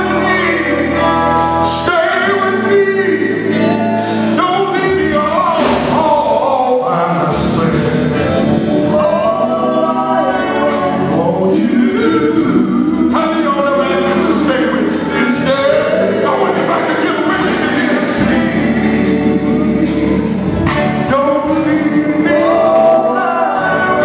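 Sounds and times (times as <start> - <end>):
man singing into microphone: 0.0 - 24.0
musical backing: 0.0 - 24.0.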